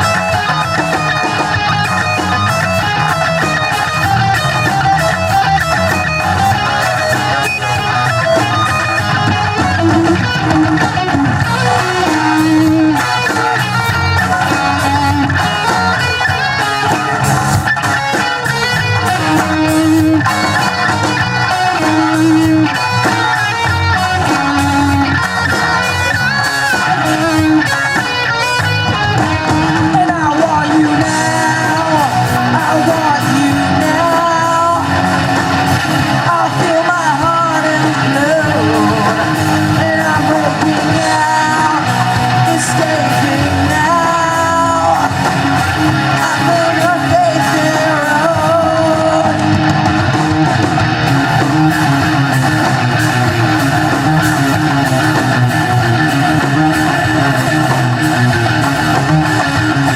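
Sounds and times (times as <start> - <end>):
bass guitar: 0.0 - 59.9
electric guitar: 0.0 - 59.9.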